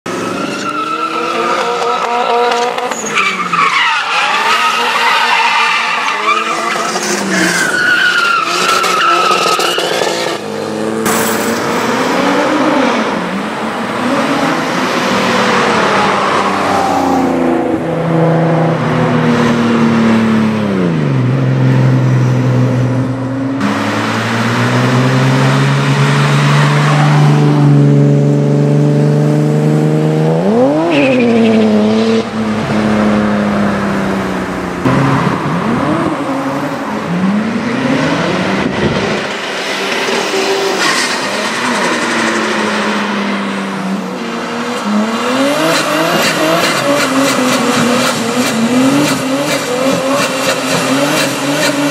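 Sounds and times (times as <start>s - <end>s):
car engine revving: 8.3s - 51.9s.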